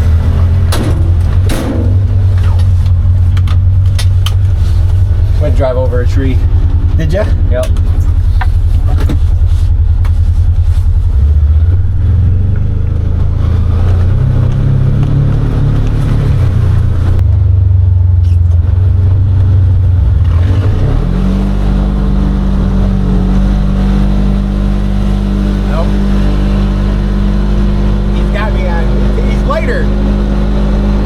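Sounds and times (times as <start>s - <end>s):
utility vehicle engine driving: 0.0s - 31.0s.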